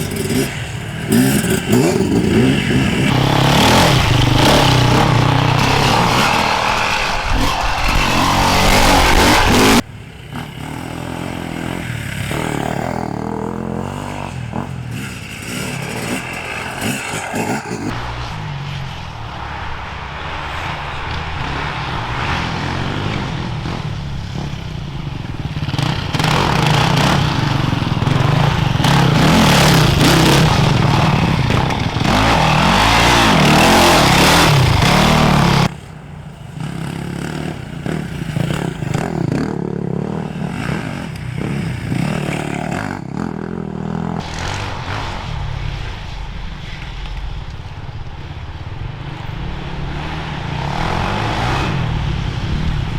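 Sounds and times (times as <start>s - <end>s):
motorcycle engine revving: 0.0s - 46.0s, 48.8s - 52.9s
distant off-road bike engines: 0.0s - 52.9s.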